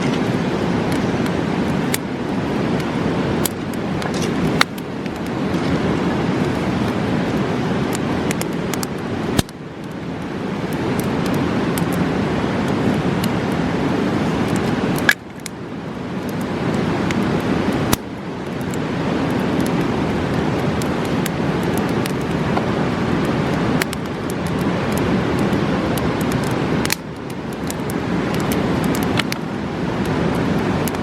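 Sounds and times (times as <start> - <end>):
campfire crackling: 0.0 - 31.0
river rushing: 0.0 - 31.0.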